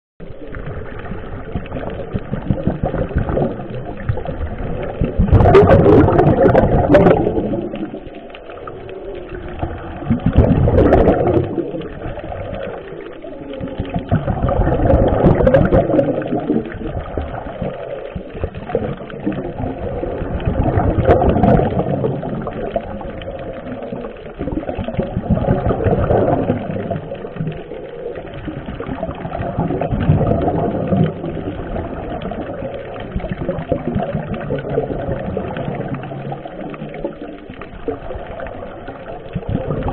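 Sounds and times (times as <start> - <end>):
gurgling exhaled bubbles: 0.2 - 39.9.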